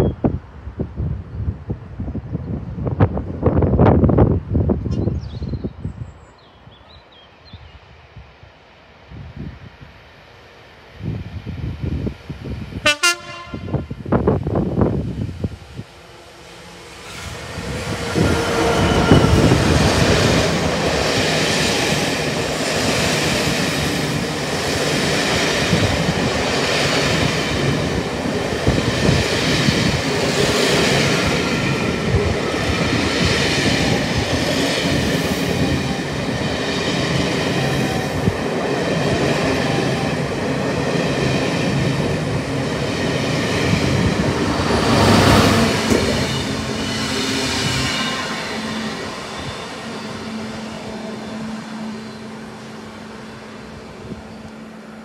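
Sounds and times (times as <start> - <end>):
diesel locomotive passing: 6.7 - 55.0.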